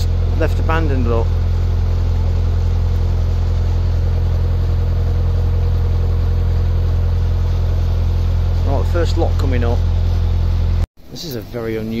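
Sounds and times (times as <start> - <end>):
boat diesel engine drone: 0.0 - 10.9.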